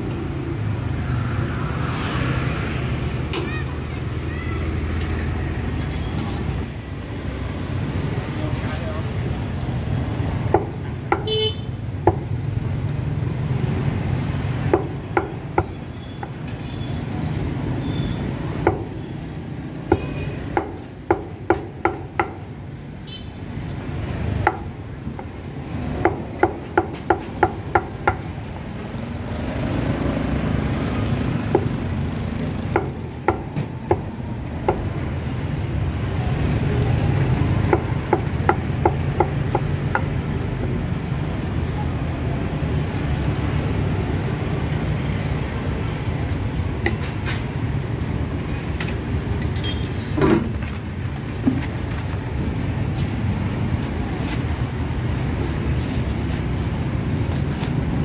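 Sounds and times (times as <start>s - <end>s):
rumble of passing vehicles: 0.0s - 58.0s.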